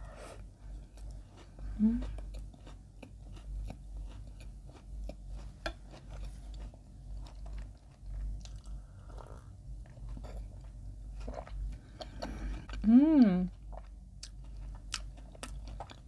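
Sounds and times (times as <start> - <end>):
chewing bread: 0.6 - 16.0.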